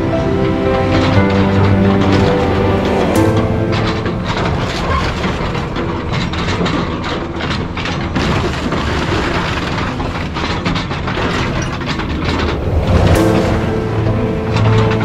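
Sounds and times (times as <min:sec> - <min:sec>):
excavator engine running: 0:00.0 - 0:15.0
sheet metal crunching and cracking: 0:00.0 - 0:15.0.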